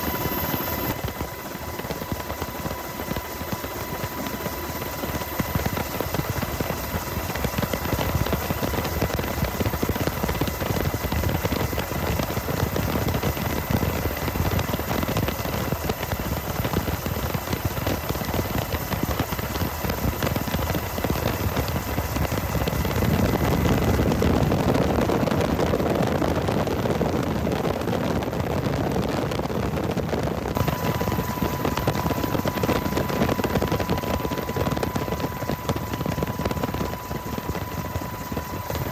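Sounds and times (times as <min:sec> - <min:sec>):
aircraft rotor whirring: 0:00.0 - 0:38.9
faint high whine: 0:00.0 - 0:38.9.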